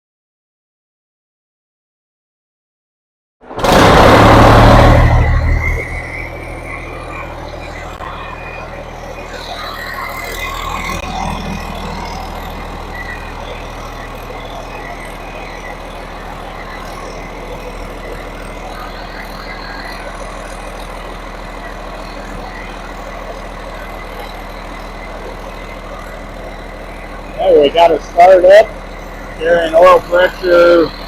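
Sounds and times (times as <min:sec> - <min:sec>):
diesel engine idling: 0:03.6 - 0:31.0.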